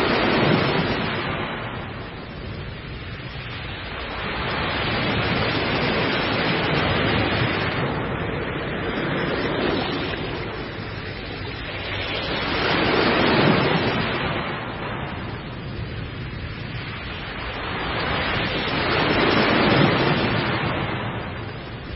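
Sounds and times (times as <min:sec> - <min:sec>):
heavy ocean surf: 0:00.0 - 0:21.9.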